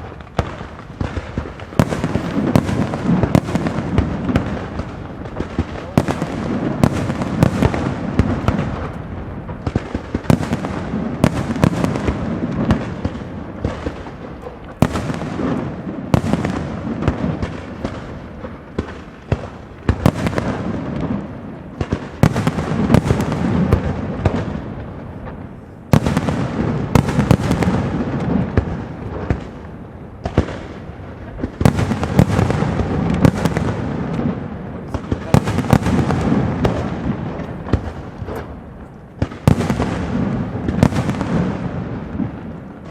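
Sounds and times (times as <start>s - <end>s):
firework crackling: 0.0s - 42.9s.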